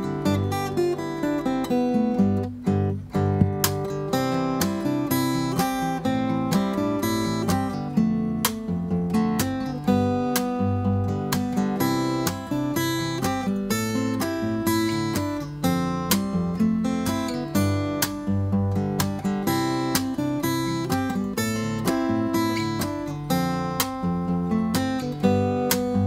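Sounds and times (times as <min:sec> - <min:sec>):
fingerstyle acoustic guitar: 0:00.0 - 0:26.0.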